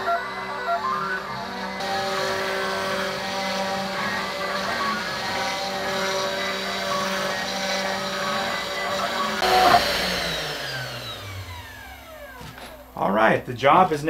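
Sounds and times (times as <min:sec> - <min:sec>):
router spindle whine: 0:00.0 - 0:13.0
stepper motor tones: 0:00.0 - 0:13.0.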